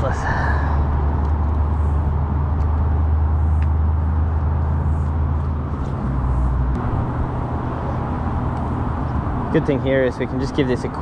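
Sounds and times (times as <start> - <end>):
road traffic drone: 0.0 - 11.0.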